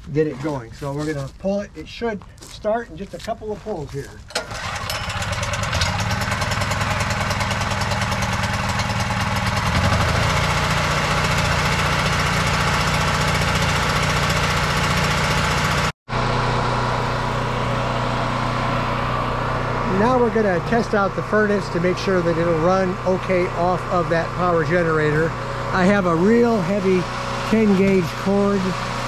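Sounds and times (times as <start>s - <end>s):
generator engine running: 0.0s - 29.0s.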